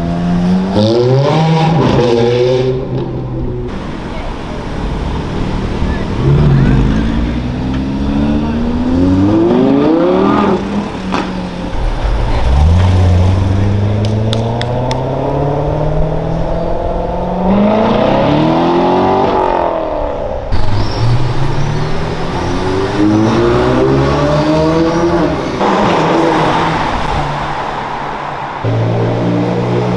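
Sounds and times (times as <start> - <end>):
car engine accelerating hard: 0.0 - 29.9.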